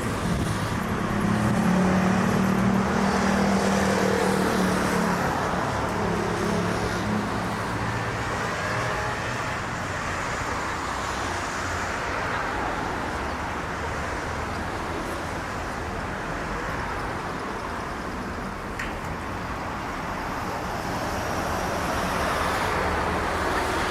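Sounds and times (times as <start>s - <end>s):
road traffic noise: 0.0s - 23.9s.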